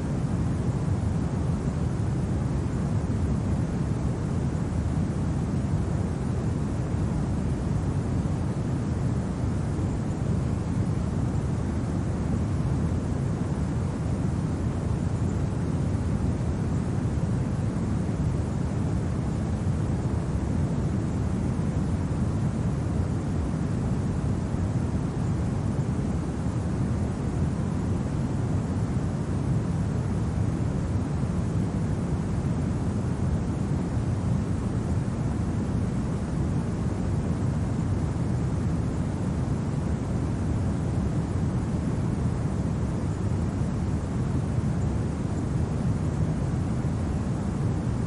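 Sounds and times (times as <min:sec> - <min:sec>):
low rumbling wind: 0:00.0 - 0:48.0.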